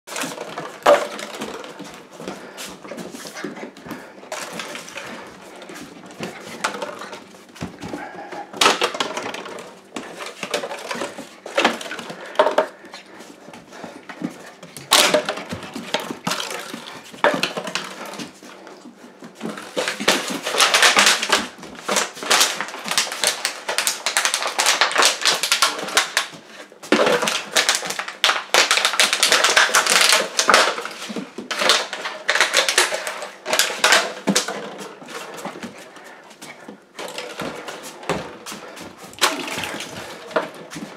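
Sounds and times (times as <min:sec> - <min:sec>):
plastic bottle crinkling and clattering: 0:00.1 - 0:40.9.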